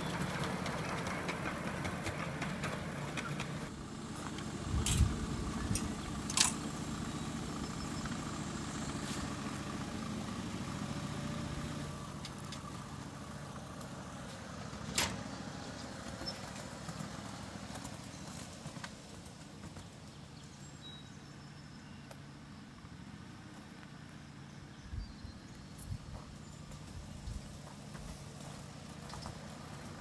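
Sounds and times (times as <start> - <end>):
small train engine running: 0.0 - 20.7, 26.0 - 30.0.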